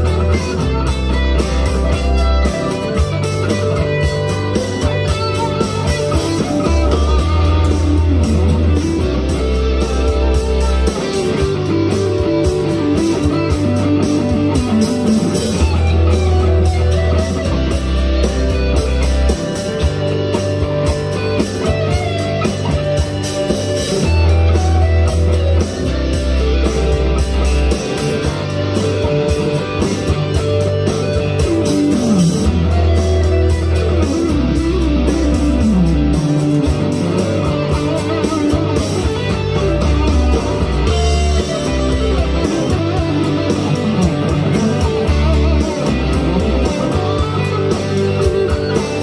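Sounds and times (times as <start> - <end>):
electric guitar through amp: 0.0 - 49.0
low bass notes: 0.0 - 49.0.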